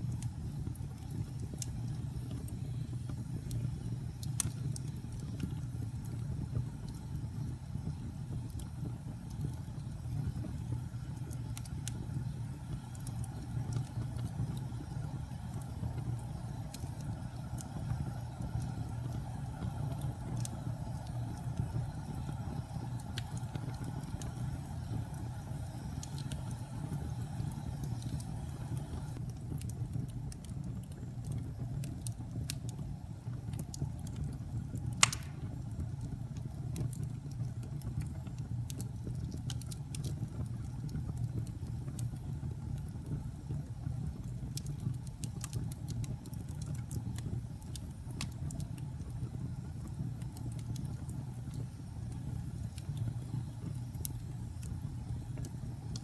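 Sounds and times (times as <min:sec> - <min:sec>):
fire crackling and popping: 0:00.0 - 0:56.0
low rumble of flame: 0:00.0 - 0:56.0.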